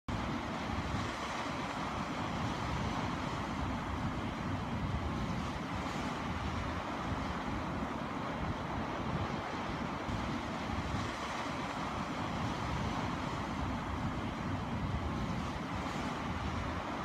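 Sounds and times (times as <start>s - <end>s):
wind rumble on microphone: 0.1s - 17.0s.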